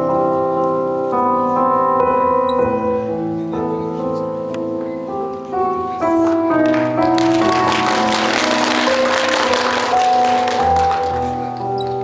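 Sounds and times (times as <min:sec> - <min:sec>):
instrumental piano music: 0:00.0 - 0:12.0.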